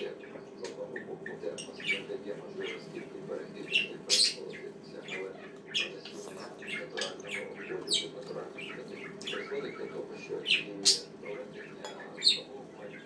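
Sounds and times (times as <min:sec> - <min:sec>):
pet bird chirping: 0:00.0 - 0:03.0, 0:03.6 - 0:13.0.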